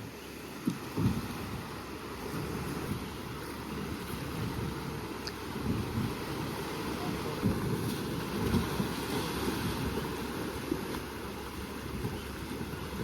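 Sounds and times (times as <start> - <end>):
ocean waves washing: 0.0 - 13.0
wind buffeting microphone: 0.6 - 13.0.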